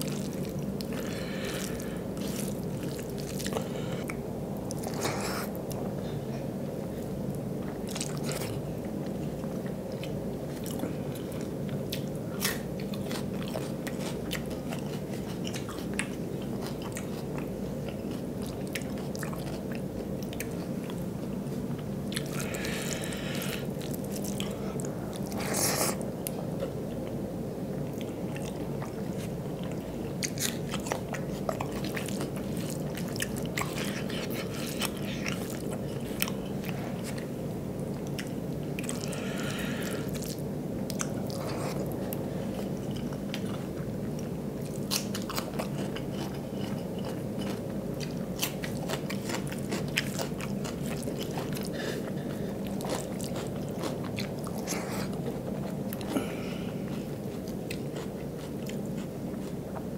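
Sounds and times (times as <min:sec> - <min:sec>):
chewing and wet mouth noises: 0:00.0 - 0:59.9
steady low hum: 0:00.0 - 0:59.9.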